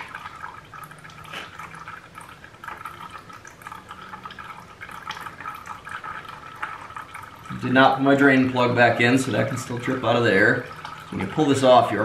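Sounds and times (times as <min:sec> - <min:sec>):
oil trickling into drain pan: 0:00.0 - 0:12.0.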